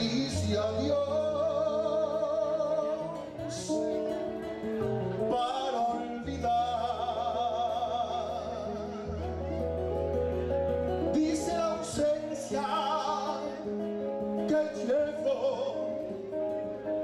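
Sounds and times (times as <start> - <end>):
man singing into a microphone: 0.0 - 4.4, 5.2 - 10.2, 10.9 - 17.0
instrumental accompaniment with bass: 0.0 - 17.0.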